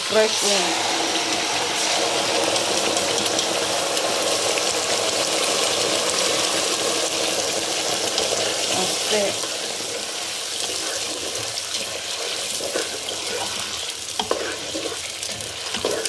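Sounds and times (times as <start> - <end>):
tomato frying in oil: 0.0 - 16.0.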